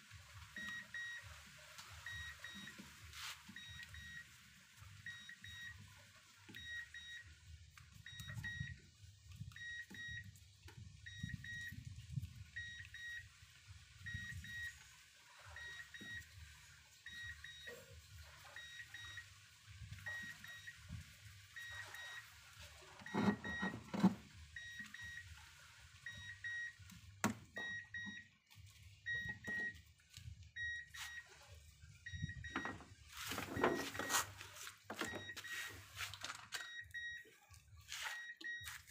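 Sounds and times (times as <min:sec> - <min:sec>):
car warning chime beeping: 0:00.4 - 0:11.8, 0:12.4 - 0:14.8, 0:15.4 - 0:22.4, 0:23.0 - 0:28.4, 0:29.0 - 0:36.0, 0:36.6 - 0:37.4, 0:38.1 - 0:38.8.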